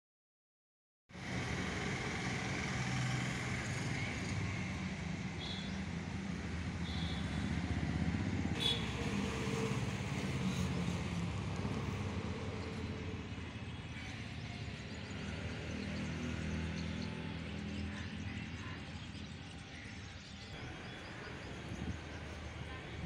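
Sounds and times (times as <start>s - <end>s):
vehicle engines rumbling: 1.2s - 23.0s.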